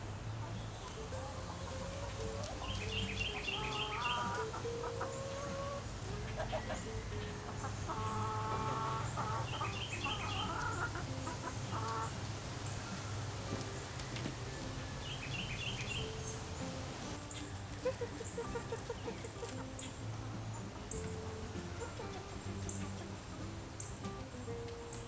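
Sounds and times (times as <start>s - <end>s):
hens clucking and calling: 0.0s - 25.0s
songbird chirping: 0.0s - 25.0s.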